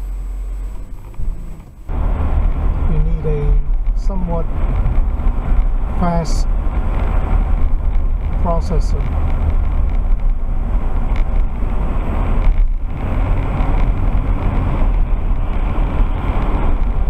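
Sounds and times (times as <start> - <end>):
road and engine noise inside car: 0.0 - 17.0.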